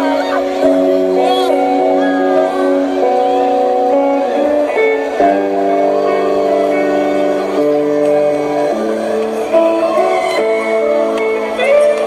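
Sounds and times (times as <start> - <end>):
guitar chords: 0.0 - 12.0.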